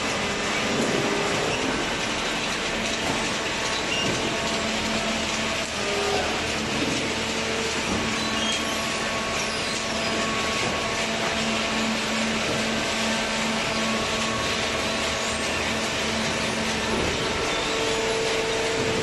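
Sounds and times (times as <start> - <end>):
baler machine whirring: 0.0 - 19.0.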